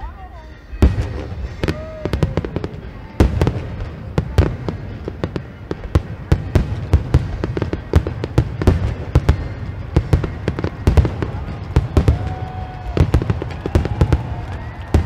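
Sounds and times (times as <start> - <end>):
fireworks booming: 0.8 - 15.0.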